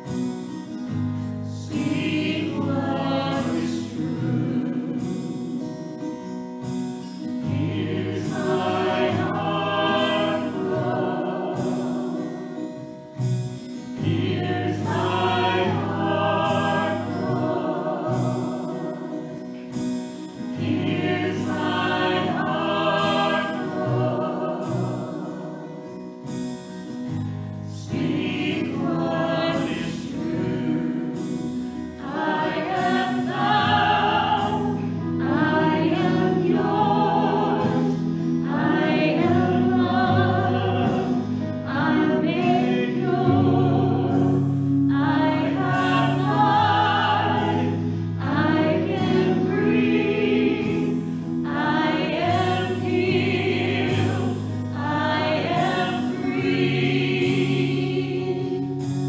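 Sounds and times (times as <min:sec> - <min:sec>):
group singing worship song: 0:00.0 - 0:59.0
instrumental accompaniment: 0:00.0 - 0:59.0.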